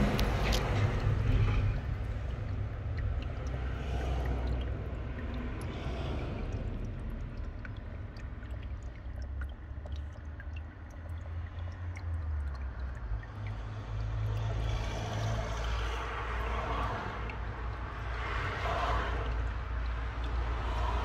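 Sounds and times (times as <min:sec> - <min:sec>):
faint drips: 0:00.0 - 0:21.0
small stream trickling: 0:00.0 - 0:21.0.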